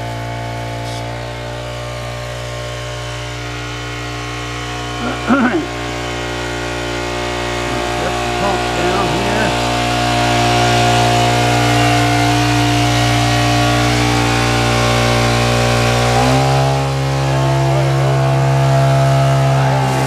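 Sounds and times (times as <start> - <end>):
engine-driven water pump running: 0.0 - 20.0.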